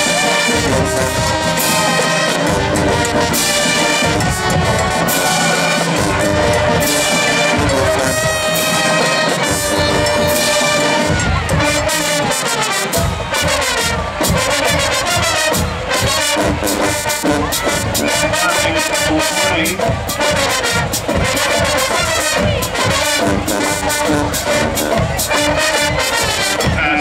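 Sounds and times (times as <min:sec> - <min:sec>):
brass and sousaphones: 0:00.0 - 0:27.0
marching band playing: 0:00.0 - 0:27.0
steady drum beat: 0:00.0 - 0:27.0.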